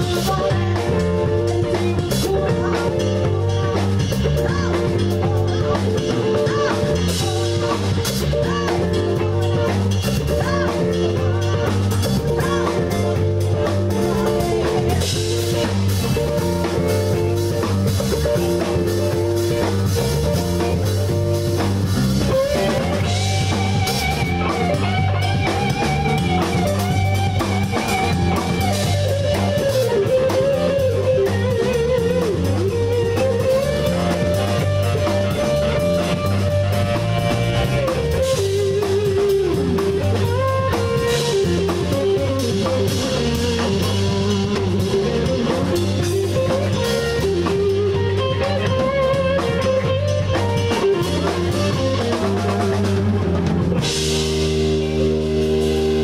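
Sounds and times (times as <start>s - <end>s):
lead guitar bending pitch: 0.0s - 56.0s
rock band playing: 0.0s - 56.0s.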